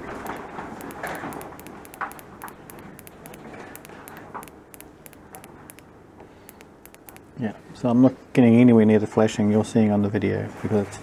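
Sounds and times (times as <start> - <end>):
faint low hum: 0.0 - 10.1.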